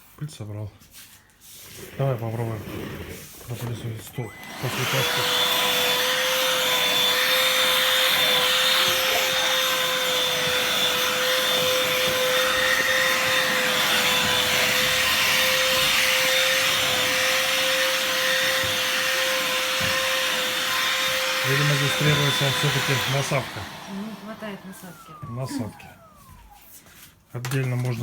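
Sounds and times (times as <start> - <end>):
handheld vacuum whining: 1.7 - 28.0.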